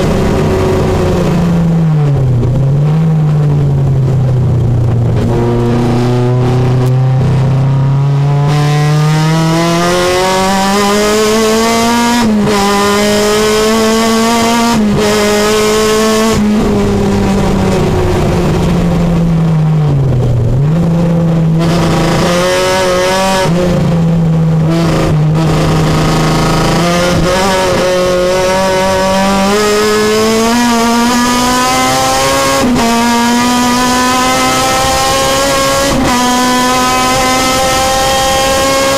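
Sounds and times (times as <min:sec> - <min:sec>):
race car engine at full throttle: 0:00.0 - 0:38.9.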